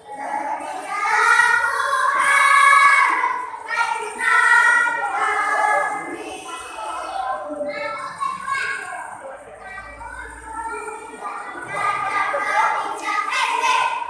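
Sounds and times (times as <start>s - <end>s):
children's choir singing: 0.0s - 14.0s.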